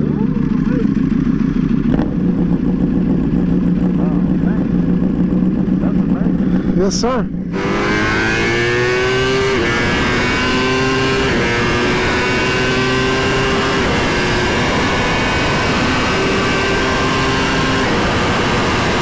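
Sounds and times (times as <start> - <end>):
motorcycle engine at speed: 0.0 - 19.0.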